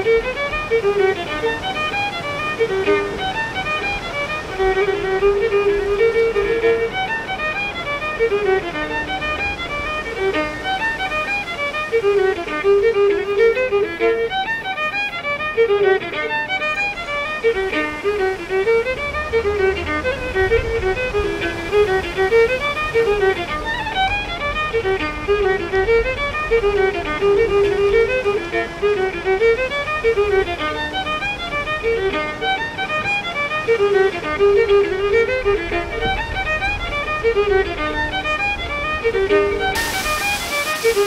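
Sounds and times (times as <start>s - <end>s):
fiddle playing quick melody: 0.0s - 41.0s.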